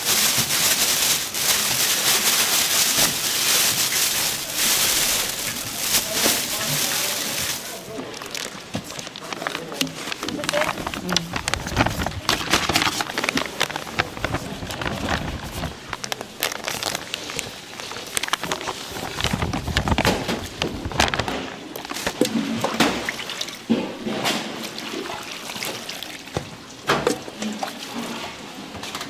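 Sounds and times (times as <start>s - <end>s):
liquid sloshing and pouring: 0.1s - 28.6s.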